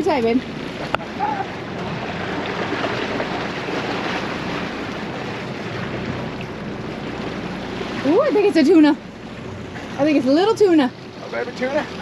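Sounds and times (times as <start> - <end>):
water rushing along a hull: 0.0 - 12.0.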